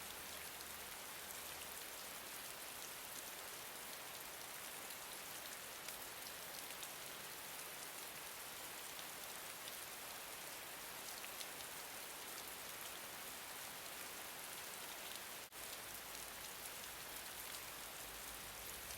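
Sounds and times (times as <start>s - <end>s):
gentle rain falling: 0.0s - 18.9s.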